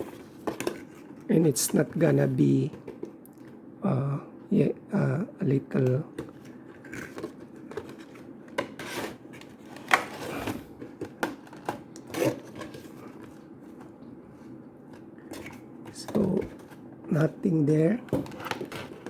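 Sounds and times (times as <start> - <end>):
cardboard and plastic packaging handled: 0.0 - 3.6, 6.2 - 19.0.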